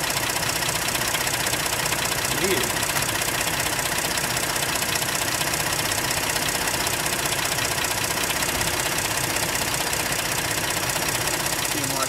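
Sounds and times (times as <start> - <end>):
car engine idling: 0.0 - 12.0
fast even engine ticking: 0.0 - 12.0.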